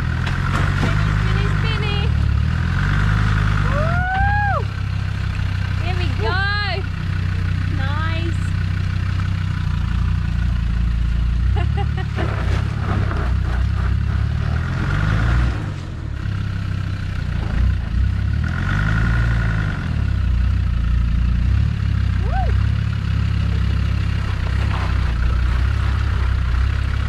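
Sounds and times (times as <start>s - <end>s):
car engine pulling at low revs: 0.0s - 27.0s.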